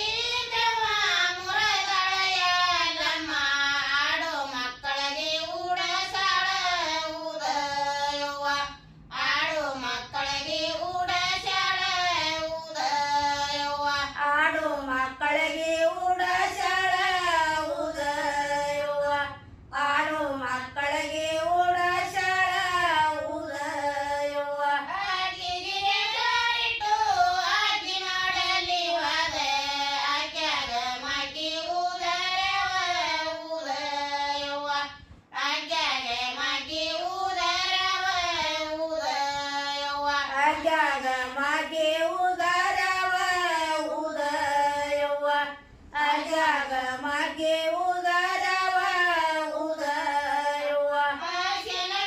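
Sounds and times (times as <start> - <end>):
women singing folk song: 0.0 - 52.0.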